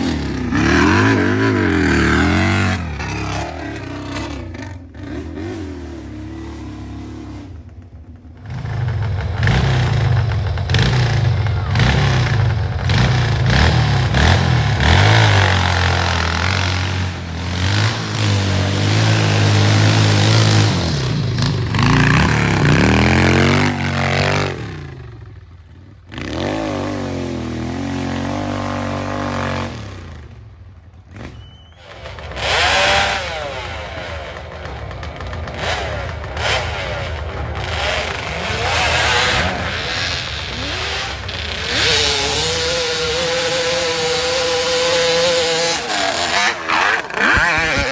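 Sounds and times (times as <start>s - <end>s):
motorcycle engines revving: 0.0s - 47.9s.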